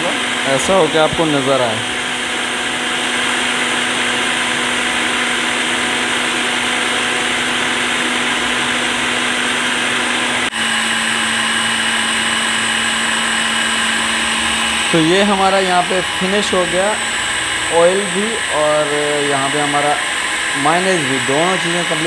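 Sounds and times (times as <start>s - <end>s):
food chopper motor running: 0.0s - 22.0s.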